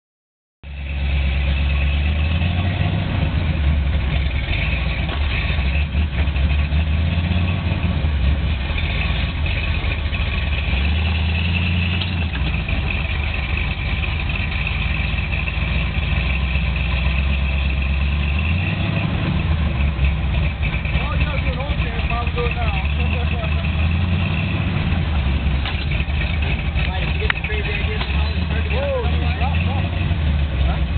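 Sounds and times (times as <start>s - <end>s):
pickup engine low rumble: 0.6s - 30.9s.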